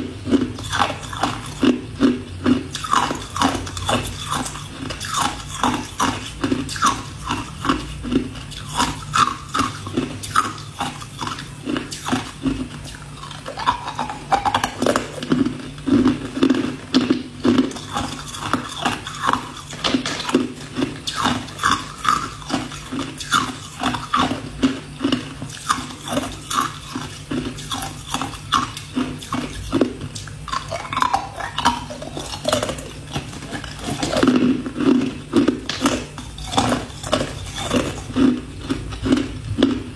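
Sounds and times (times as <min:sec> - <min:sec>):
ice cubes crunched by teeth: 0:00.3 - 0:39.9.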